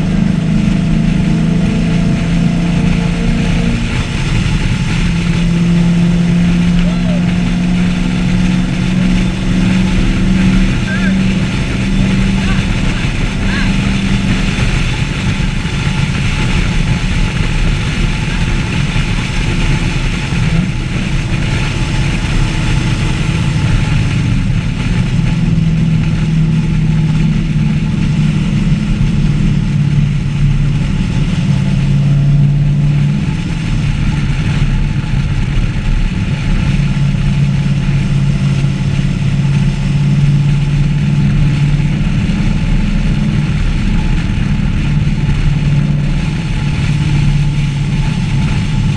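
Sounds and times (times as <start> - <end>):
car engine running: 0.0 - 48.9.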